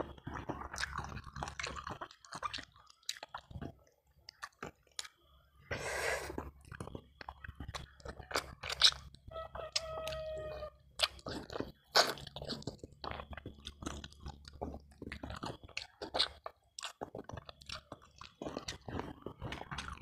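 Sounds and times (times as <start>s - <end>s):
person chewing wet smacks: 0.1s - 5.2s, 6.4s - 10.2s, 10.9s - 20.0s.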